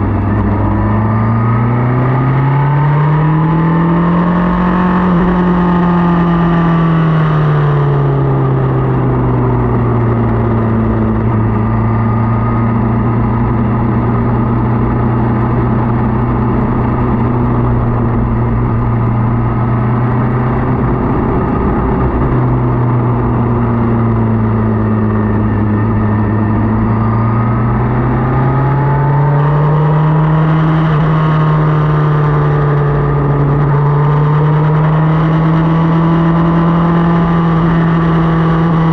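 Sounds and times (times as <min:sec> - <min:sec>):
motorcycle engine running: 0:00.0 - 0:38.9
rumbling wind noise: 0:00.0 - 0:38.9.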